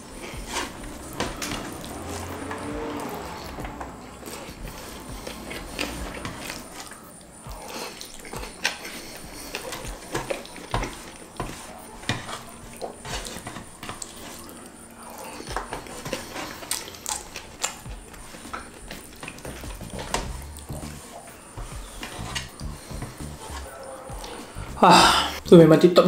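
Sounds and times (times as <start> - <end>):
person chewing with lip smacks: 0.1 - 24.7.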